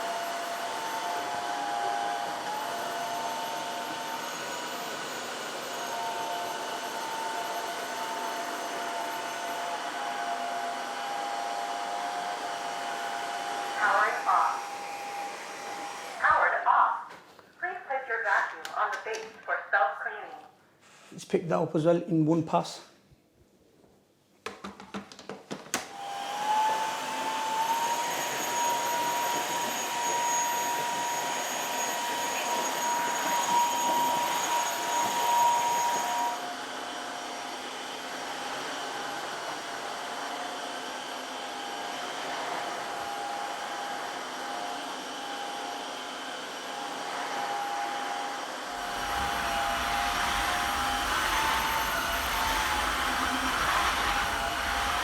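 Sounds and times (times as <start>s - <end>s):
floor cleaner whine: 0.0s - 17.6s, 25.7s - 55.0s.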